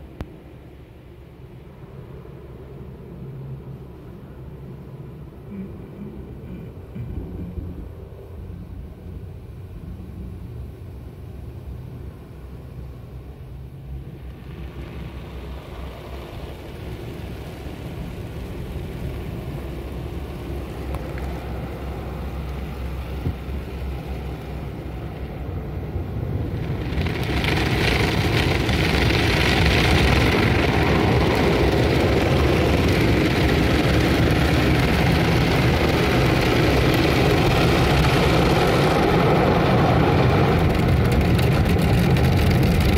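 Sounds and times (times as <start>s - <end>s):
car wash machinery rumble: 0.0s - 42.9s.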